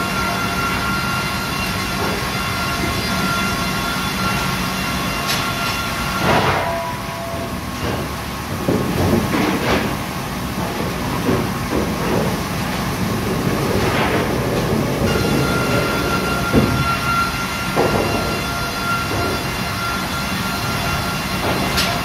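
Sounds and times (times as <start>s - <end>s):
machine rumble: 0.0s - 22.0s
steady machine whine: 0.0s - 22.0s.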